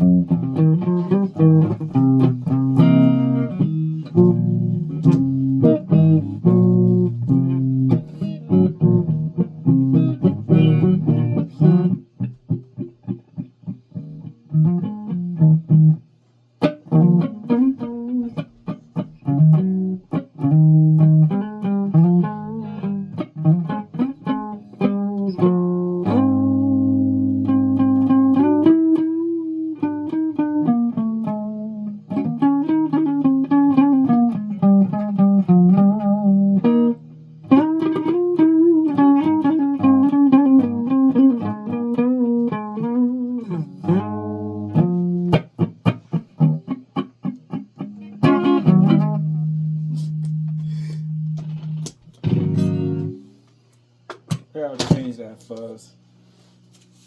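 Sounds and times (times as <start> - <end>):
guitar picked melody: 0.0 - 53.4.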